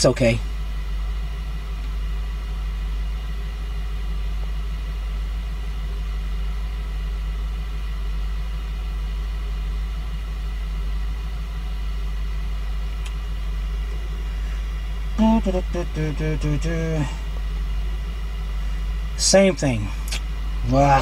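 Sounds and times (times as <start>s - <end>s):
car engine idling with misfire: 0.0s - 21.0s.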